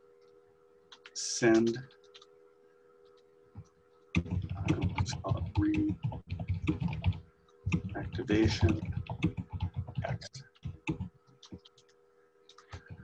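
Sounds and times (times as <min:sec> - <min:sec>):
rapid keyboard typing: 0:00.9 - 0:02.3, 0:03.0 - 0:13.0.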